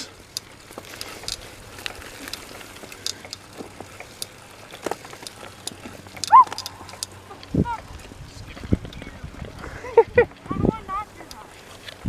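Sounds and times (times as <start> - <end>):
bicycles rustling on dirt trail: 0.0 - 12.0
light clicks and rattles: 0.0 - 12.0.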